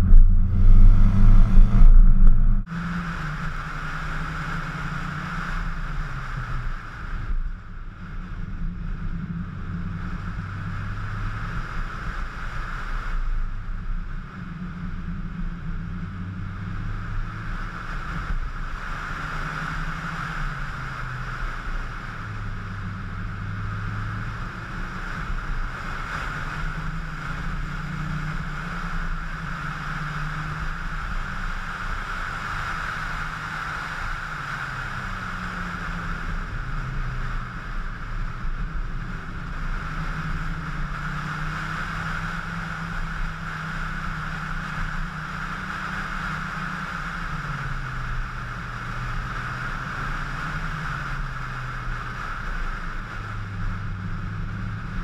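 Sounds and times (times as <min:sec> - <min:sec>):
car engine droning: 0:00.0 - 0:55.0
wind and road noise: 0:00.0 - 0:55.0.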